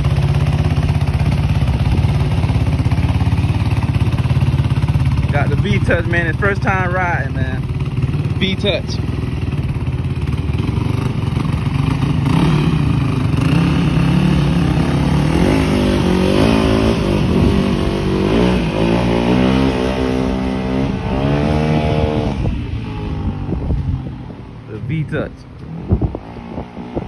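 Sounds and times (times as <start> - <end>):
dirt bike engine revving: 0.0 - 23.6.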